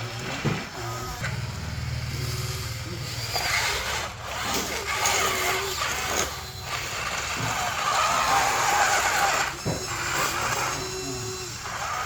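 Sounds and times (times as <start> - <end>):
toy bulldozer motor whine: 0.0 - 12.0.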